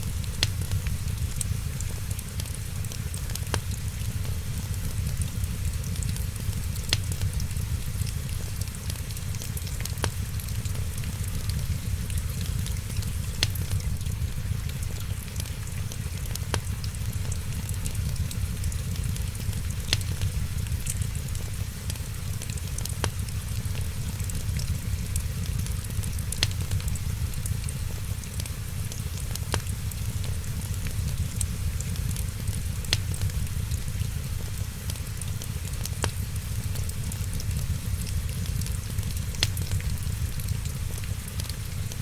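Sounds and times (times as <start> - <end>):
rain falling: 0.0 - 42.0
wood fire crackling: 0.0 - 42.0.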